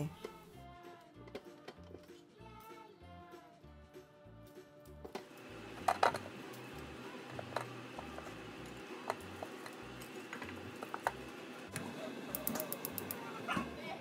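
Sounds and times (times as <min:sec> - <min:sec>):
faint music: 0:00.0 - 0:14.0.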